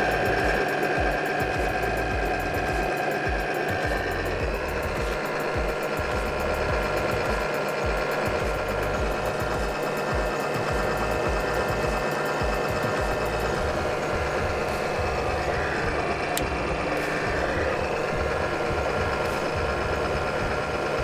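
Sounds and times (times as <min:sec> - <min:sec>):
faint fast ticking: 0:00.0 - 0:21.0
roll mill motor drone: 0:00.0 - 0:21.0.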